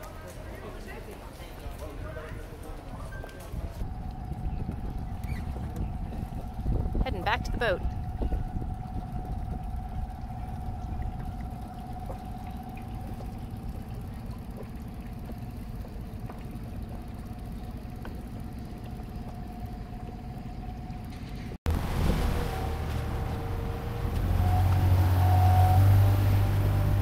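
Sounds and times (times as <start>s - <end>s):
outboard motor running: 0.2s - 27.0s.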